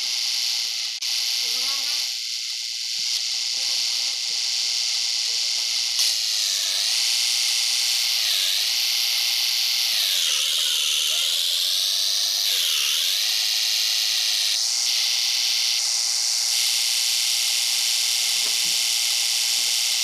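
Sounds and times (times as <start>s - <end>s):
high-pitched machine whine: 0.0s - 20.0s.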